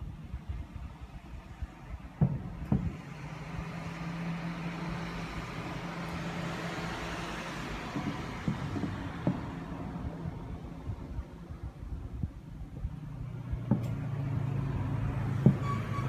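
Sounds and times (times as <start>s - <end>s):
road vehicle passing by: 1.8s - 16.0s.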